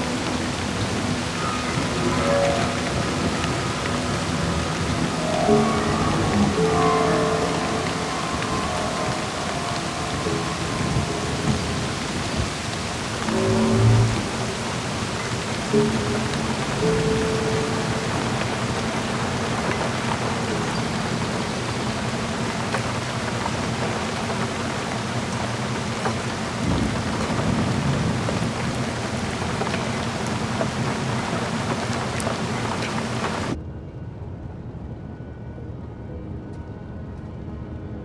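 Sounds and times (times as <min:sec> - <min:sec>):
heavy rain: 0:00.0 - 0:33.6
low rumble: 0:00.0 - 0:36.8
low sustained drone: 0:00.0 - 0:38.0.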